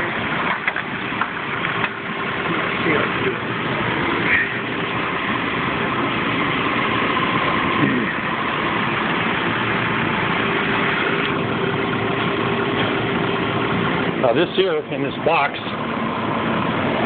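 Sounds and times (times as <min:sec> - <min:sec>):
car engine idling: 0:00.0 - 0:17.0
faint steady compressor whine: 0:00.0 - 0:17.0.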